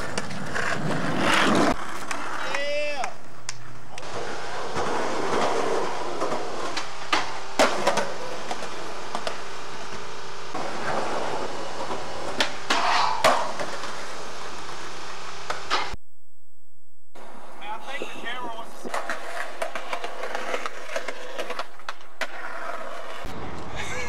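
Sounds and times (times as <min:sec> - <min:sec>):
skateboard clacks: 0:00.0 - 0:14.0, 0:18.0 - 0:23.8
skateboard wheels rolling on concrete: 0:00.0 - 0:16.0, 0:17.2 - 0:24.0.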